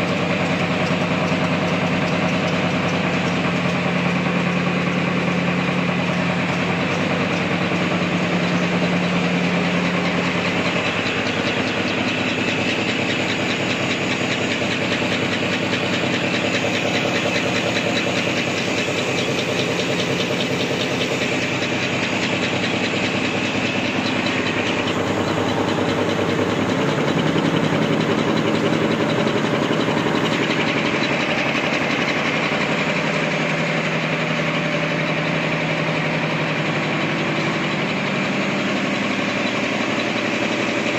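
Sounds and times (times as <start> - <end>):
machine hum: 0.0 - 40.9
napkin machine rattling: 0.4 - 33.7.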